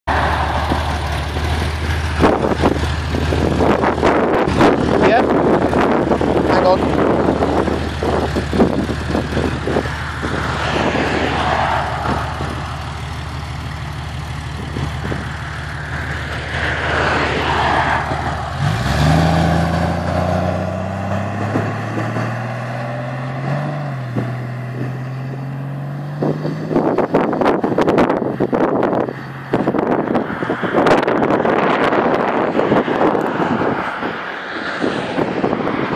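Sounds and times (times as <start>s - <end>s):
car exhaust engine note: 0.1s - 32.2s
wind noise on microphone: 0.1s - 35.9s.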